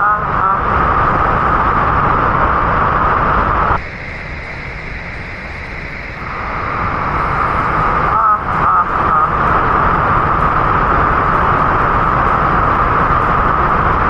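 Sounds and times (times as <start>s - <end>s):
waterfall rushing: 0.2s - 14.0s.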